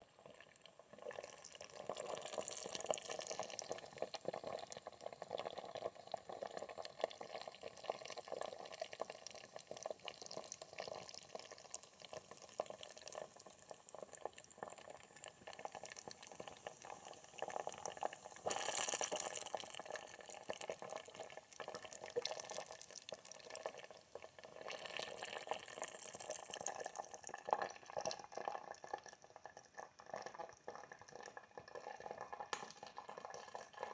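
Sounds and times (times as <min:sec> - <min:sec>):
water boiling and bubbling: 0:00.0 - 0:33.9.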